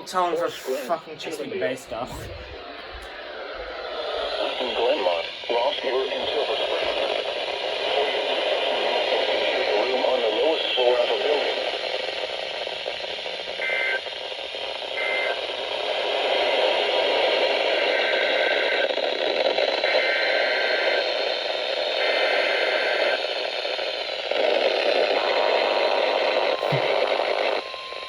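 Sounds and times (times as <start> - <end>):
radio static: 0.0 - 28.0.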